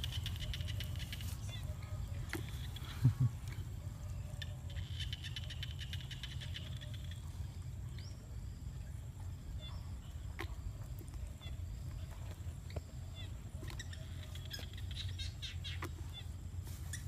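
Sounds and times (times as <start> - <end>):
faint chirps and ticks: 0.0 - 17.0.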